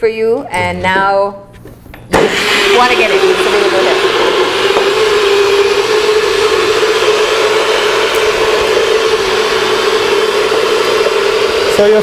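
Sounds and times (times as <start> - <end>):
blender motor humming: 2.1 - 12.0.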